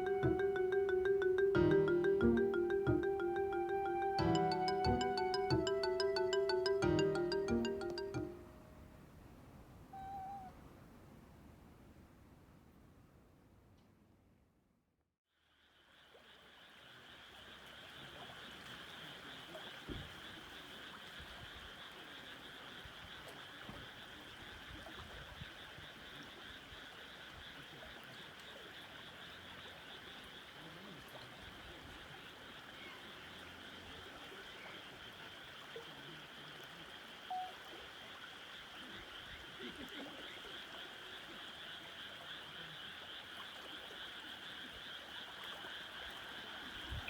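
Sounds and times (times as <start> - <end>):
frogs calling: 0.0 - 8.4, 17.1 - 47.0.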